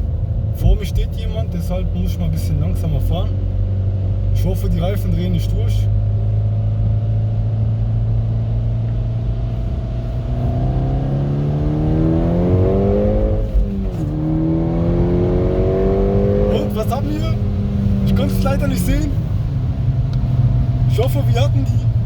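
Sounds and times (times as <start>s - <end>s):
car engine under full throttle: 0.0s - 22.0s.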